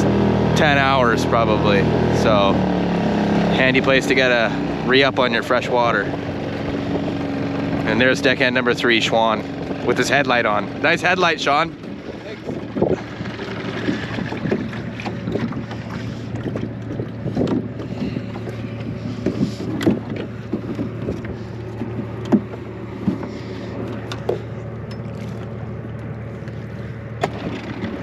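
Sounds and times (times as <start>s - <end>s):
outboard motor idling: 0.0s - 28.0s.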